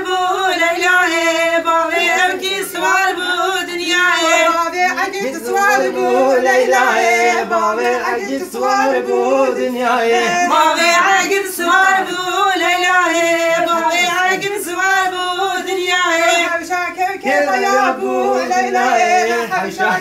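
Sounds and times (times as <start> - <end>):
people singing folk song unaccompanied: 0.0 - 20.0.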